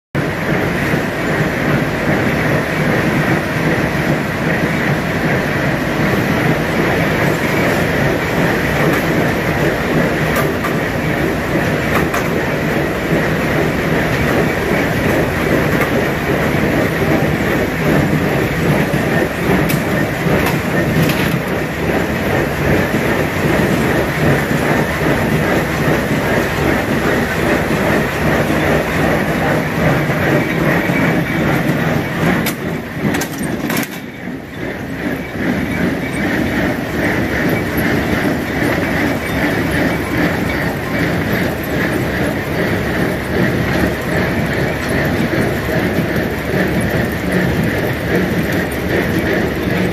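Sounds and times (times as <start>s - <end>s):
farm machinery running loudly: 0.2s - 49.9s.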